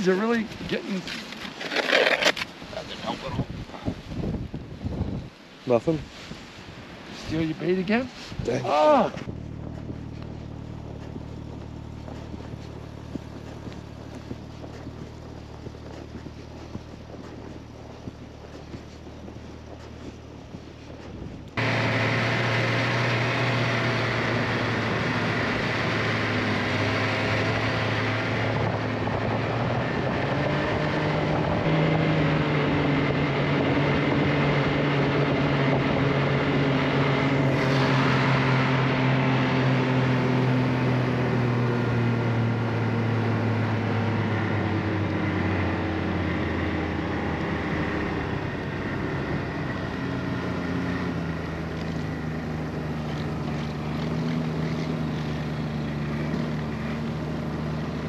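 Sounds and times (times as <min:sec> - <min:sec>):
vehicle engine running: 0:08.8 - 0:58.0.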